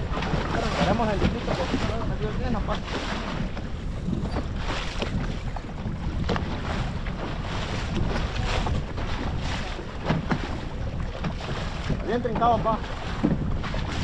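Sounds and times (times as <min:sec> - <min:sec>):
sea slapping boat hull: 0:00.0 - 0:14.0
short water splashes: 0:00.0 - 0:14.0
wind buffeting microphone: 0:00.0 - 0:14.0.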